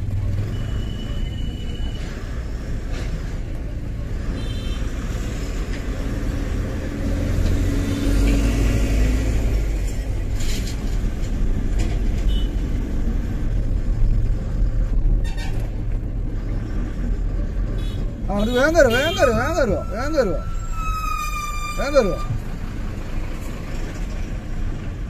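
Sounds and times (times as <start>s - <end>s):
truck diesel engine rumble: 0.0s - 25.0s.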